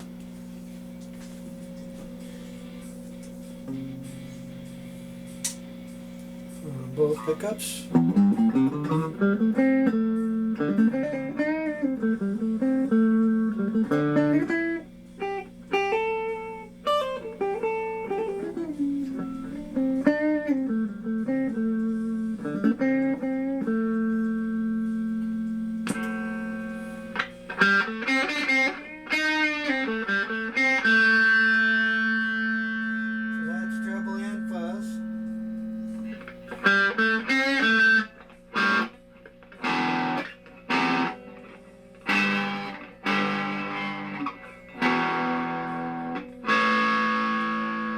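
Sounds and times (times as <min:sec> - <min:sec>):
electric guitar with fuzz: 0:00.0 - 0:47.9.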